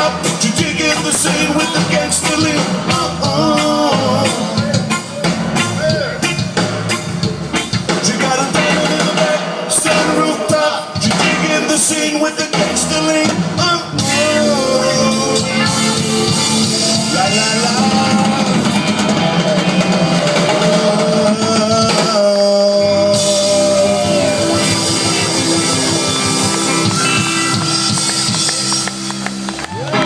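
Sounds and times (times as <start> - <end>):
person singing: 0.0 - 6.4, 7.9 - 28.0
live band playing soul: 0.0 - 30.0.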